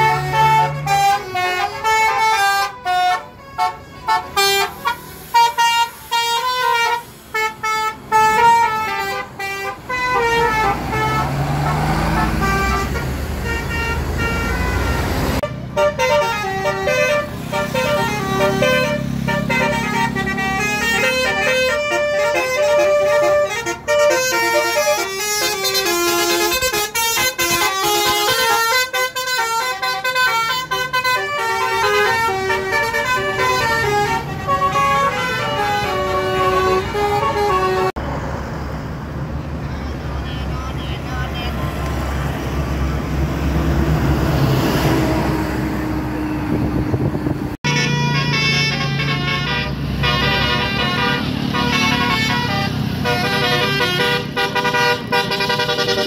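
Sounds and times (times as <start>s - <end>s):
bus multi-tone horns: 0.0s - 38.0s, 39.6s - 56.0s
passing vehicle engine and road rush: 0.0s - 56.0s.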